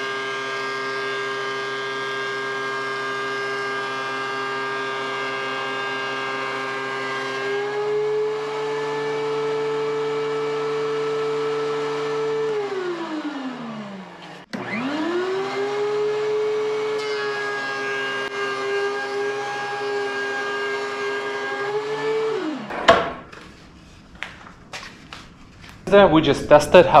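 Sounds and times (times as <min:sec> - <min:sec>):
thickness planer motor whining: 0:00.0 - 0:23.6.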